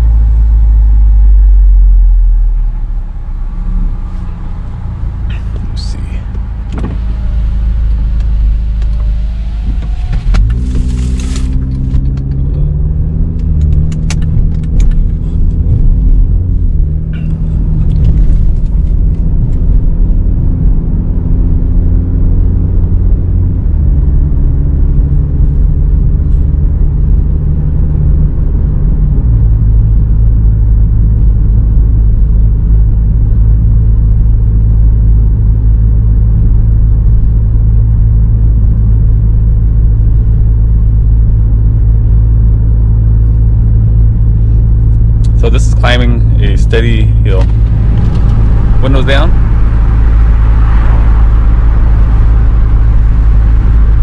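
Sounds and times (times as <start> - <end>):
car engine drone from cabin: 0.0 - 54.0.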